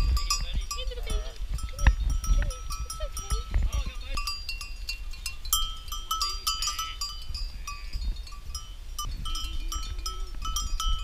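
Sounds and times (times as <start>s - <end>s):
sheep bells clinking: 0.0s - 11.0s.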